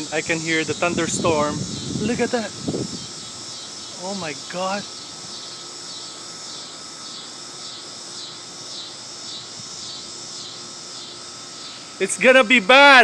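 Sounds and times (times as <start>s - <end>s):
faint steady hum: 0.0s - 13.0s
insects chirring: 0.0s - 13.0s.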